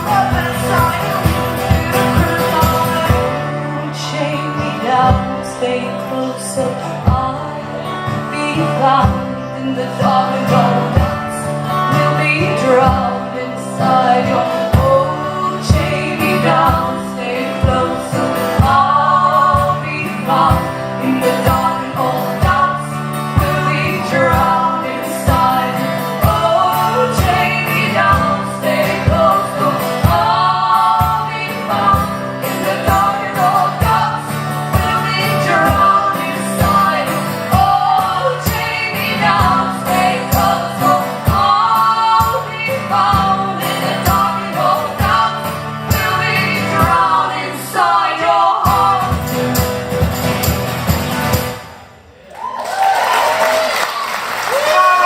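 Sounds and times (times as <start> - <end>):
person singing: 0.0 - 49.5
live band playing: 0.0 - 52.2.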